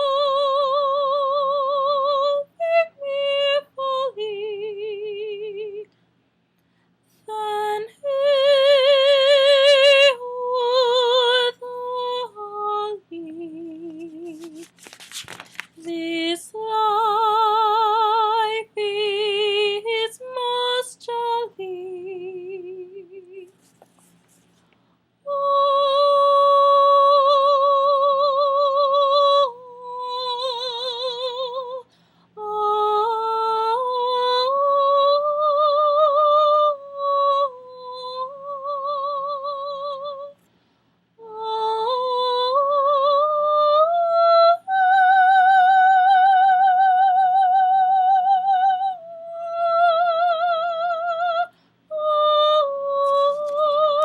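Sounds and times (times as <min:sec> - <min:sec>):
soprano voice singing with vibrato: 0:00.0 - 0:05.9, 0:07.2 - 0:14.8, 0:15.8 - 0:23.6, 0:25.3 - 0:40.5, 0:41.2 - 0:54.0.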